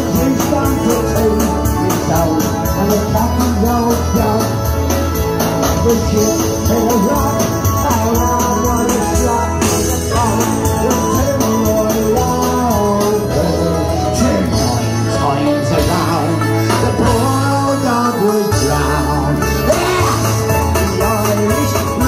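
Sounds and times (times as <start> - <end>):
song with singing and beat: 0.0 - 22.0.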